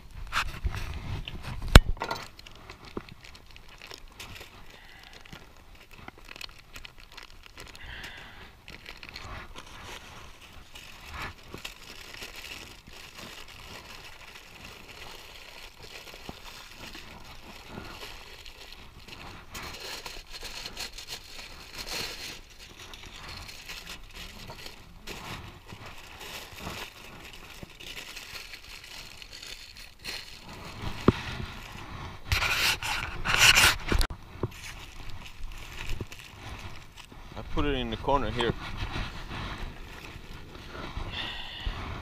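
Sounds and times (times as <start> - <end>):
aluminium foil crinkling: 0.0 - 41.6.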